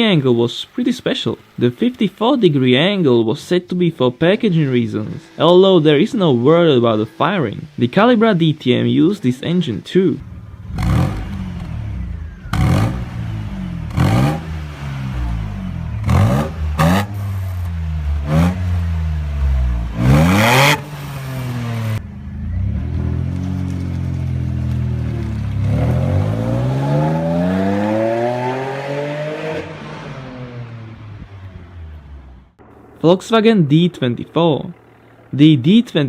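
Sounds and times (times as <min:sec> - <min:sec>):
car engine revving: 0:00.0 - 0:35.8.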